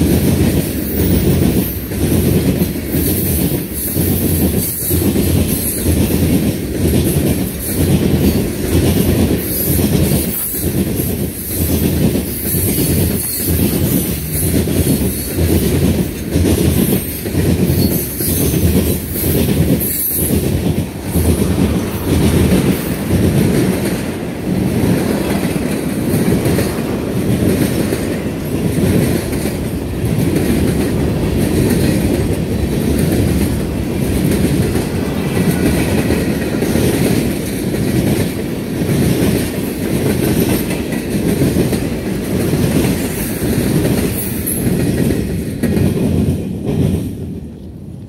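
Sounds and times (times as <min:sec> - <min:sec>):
steel wheels clattering over rail joints: 0:00.0 - 0:47.4
freight train rolling past: 0:00.0 - 0:48.0.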